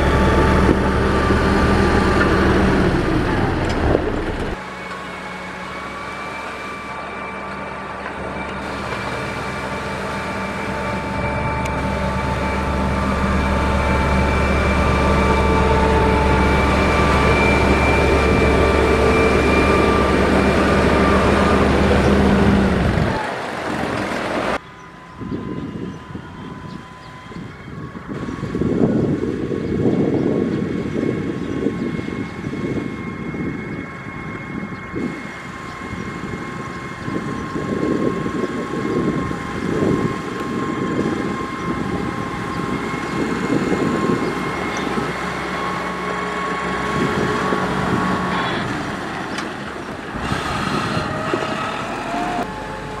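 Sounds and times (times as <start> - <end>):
high whine: 0.0 - 49.4
diesel engine rumble: 0.0 - 53.0.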